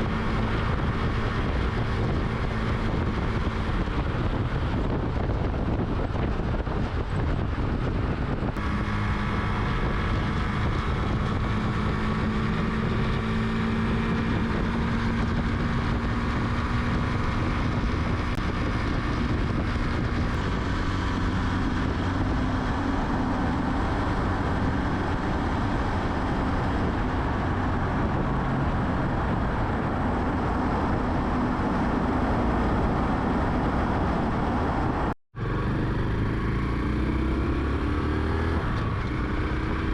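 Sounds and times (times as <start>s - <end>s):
motorcycle engine running: 0.0s - 34.6s
wind noise on microphone: 0.0s - 39.9s.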